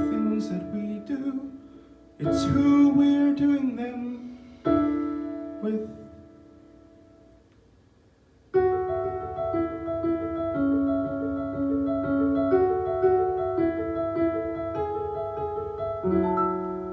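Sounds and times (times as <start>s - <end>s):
solo piano chords and melody: 0.0s - 7.4s, 8.5s - 16.9s.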